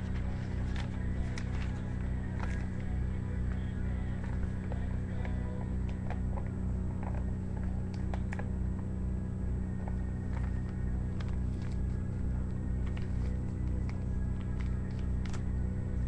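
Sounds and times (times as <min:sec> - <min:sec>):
paper envelope rustling: 0:00.0 - 0:08.4, 0:09.8 - 0:15.6
steady low hum: 0:00.0 - 0:16.0.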